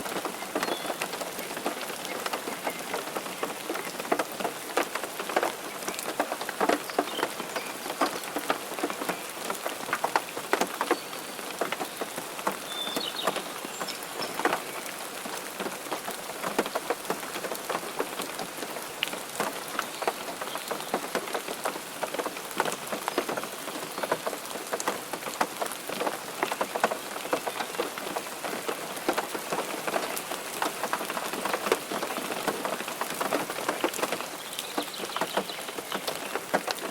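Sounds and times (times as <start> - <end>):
raindrops ticking: 0.0 - 36.9
steady rain hiss: 0.0 - 36.9.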